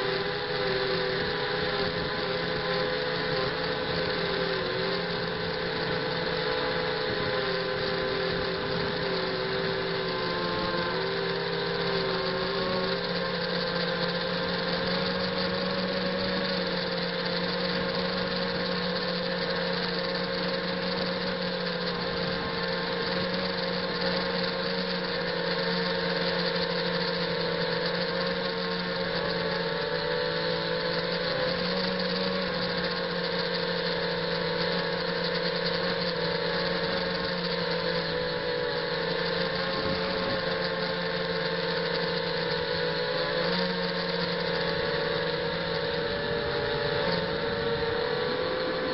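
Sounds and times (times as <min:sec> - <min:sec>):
drone propellers buzzing: 0:00.0 - 0:48.9.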